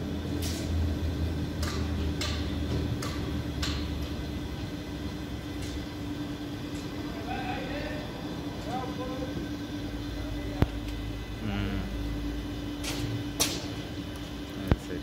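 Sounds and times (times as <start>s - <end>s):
low crane machine hum: 0.0s - 15.0s.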